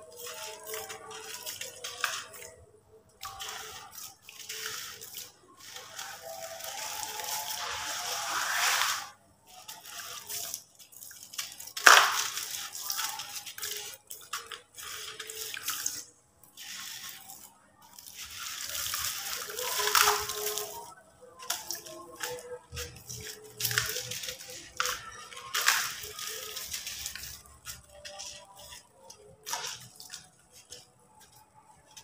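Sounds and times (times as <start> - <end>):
water sloshing and dripping: 0.0 - 32.0.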